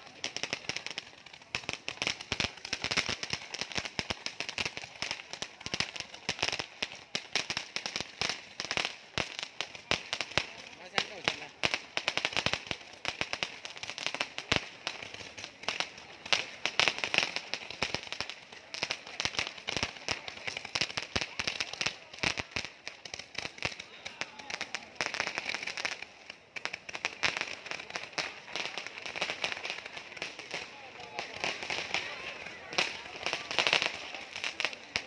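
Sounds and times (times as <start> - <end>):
crowd voices: 0.0 - 35.0
fireworks crackling and popping: 0.0 - 35.0.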